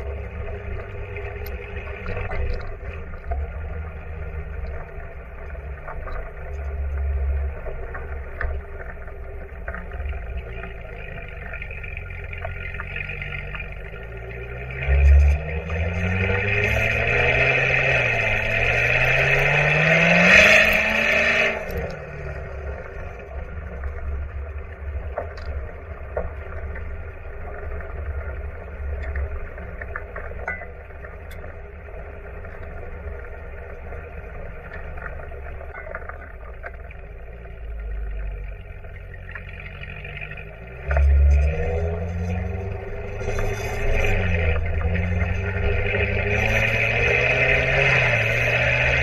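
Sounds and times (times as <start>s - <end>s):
car engine accelerating: 0.0s - 49.0s
road noise: 0.0s - 49.0s.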